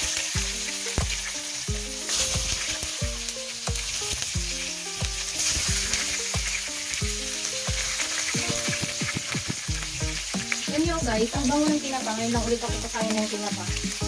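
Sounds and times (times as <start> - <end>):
background music with beat: 0.0 - 14.0
onions sizzling in oil: 0.0 - 14.0.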